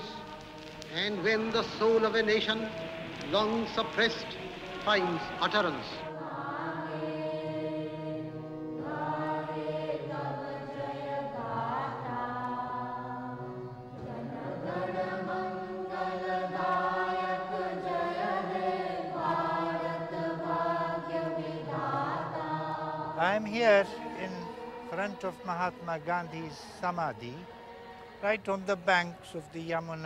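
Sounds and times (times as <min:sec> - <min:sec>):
devotional chanting: 0:00.0 - 0:30.0.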